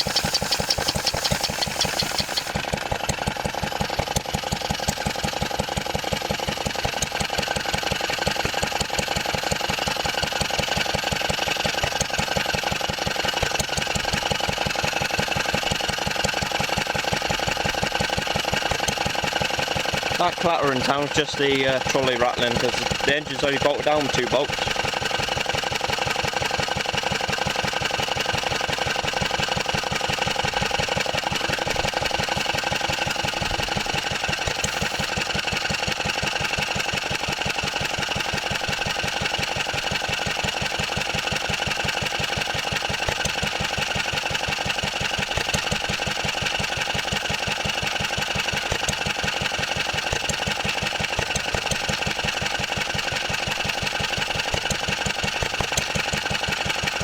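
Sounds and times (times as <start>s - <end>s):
stationary engine running: 0.0s - 57.0s.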